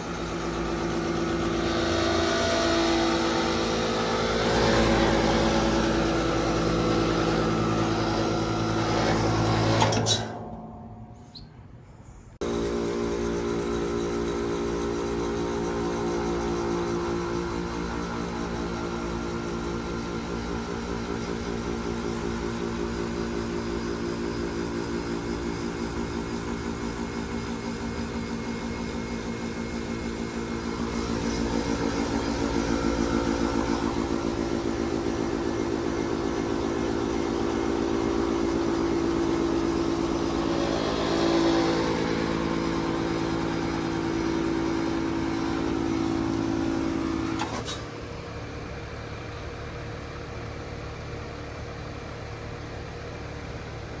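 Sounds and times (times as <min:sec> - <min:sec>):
heat pump humming: 0:00.0 - 0:11.4, 0:12.4 - 0:54.0.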